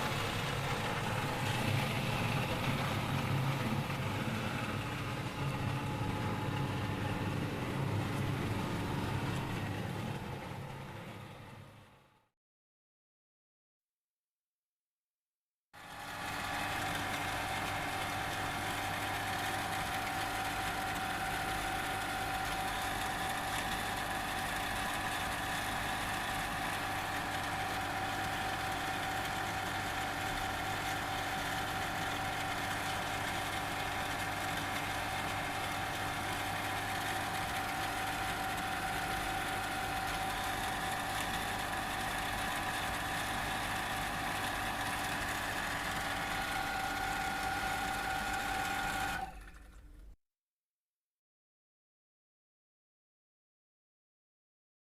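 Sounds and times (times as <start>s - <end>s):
electric water pump humming: 0.0s - 11.7s, 15.8s - 50.2s.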